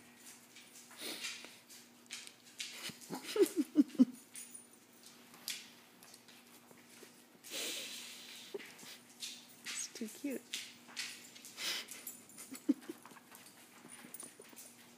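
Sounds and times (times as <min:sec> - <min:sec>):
dog paws skidding on floor: 0:00.0 - 0:14.9.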